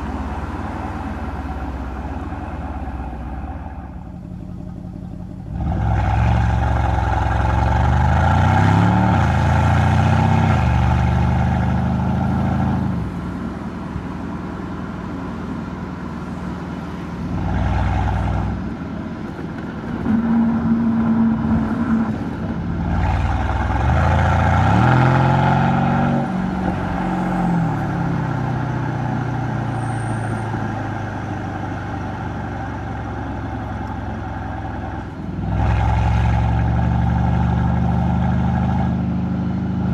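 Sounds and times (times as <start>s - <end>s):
car exhaust accelerating through gears: 0.0s - 39.9s.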